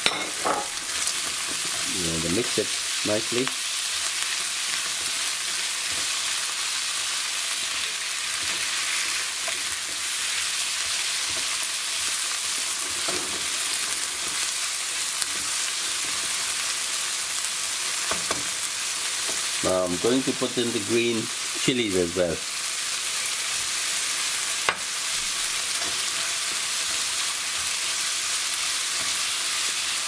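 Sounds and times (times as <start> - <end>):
vegetables sizzling in a pan: 0.0 - 30.0.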